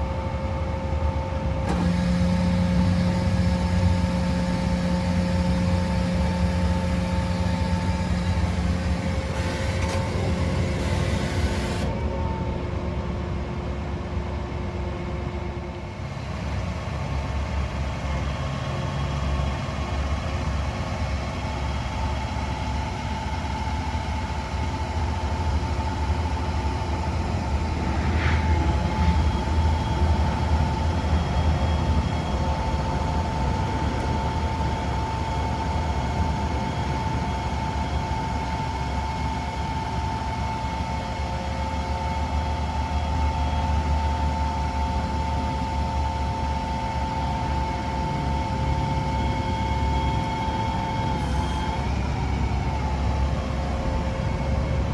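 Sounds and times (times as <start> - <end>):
diesel engine running: 0.0 - 54.9
engine whine: 0.0 - 54.9.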